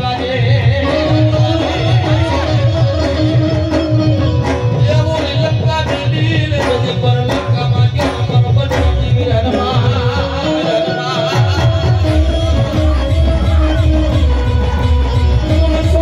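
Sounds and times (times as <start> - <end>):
hand drums: 0.0 - 16.0
person singing: 0.0 - 16.0.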